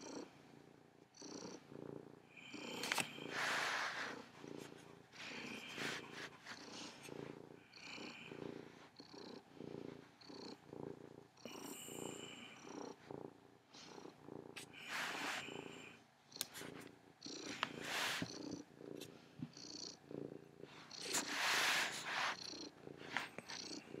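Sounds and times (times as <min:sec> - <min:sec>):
cat purring: 0:00.0 - 0:24.0
soft rustle: 0:02.5 - 0:11.0, 0:12.8 - 0:24.0.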